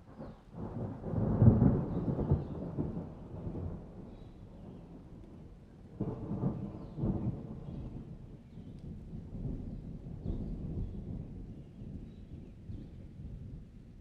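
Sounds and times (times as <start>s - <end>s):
thunder rumbling: 0.2s - 14.0s.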